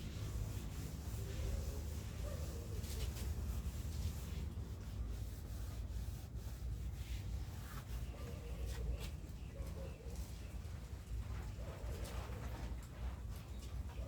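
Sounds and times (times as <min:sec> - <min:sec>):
soft rubbing and handling: 0:00.0 - 0:14.0.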